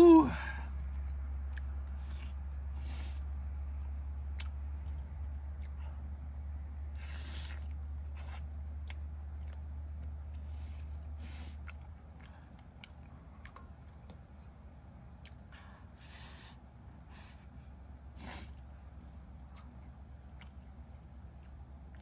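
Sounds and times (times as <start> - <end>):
low steady hum: 0.0 - 22.0
person chewing food: 0.7 - 22.0.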